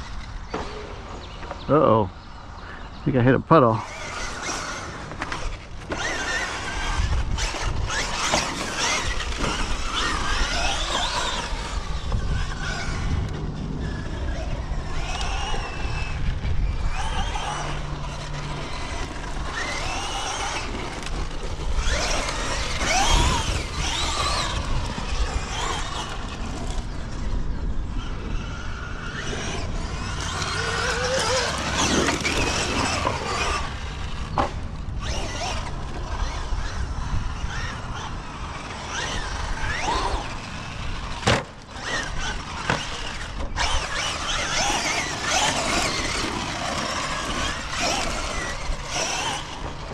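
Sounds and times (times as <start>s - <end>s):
electric motor whining: 3.7s - 49.9s.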